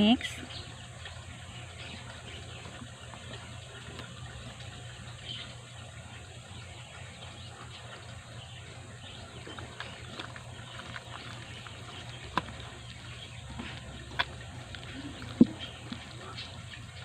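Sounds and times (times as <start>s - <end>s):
steady low hum: 0.0s - 17.0s
batter being mixed in a bowl: 0.4s - 17.0s.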